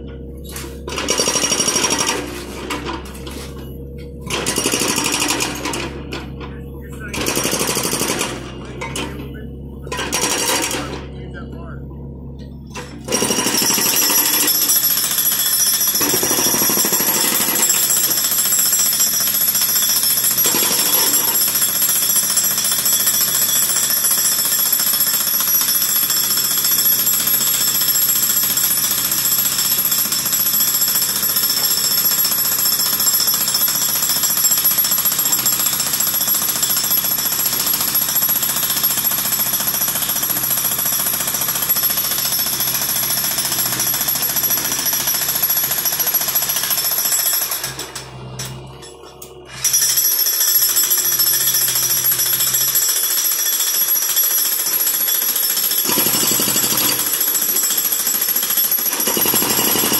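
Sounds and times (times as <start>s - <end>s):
hydraulic breaker hammering concrete: 0.0s - 11.4s, 12.4s - 59.9s.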